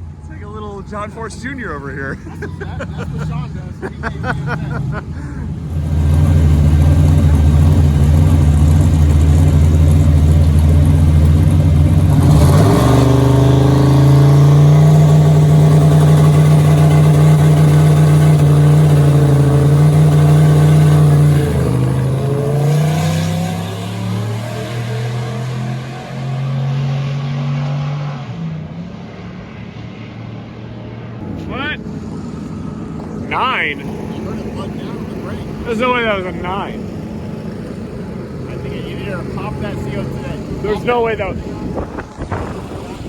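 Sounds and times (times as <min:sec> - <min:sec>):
drag car engine revving: 0:00.0 - 0:30.6, 0:31.2 - 0:43.0.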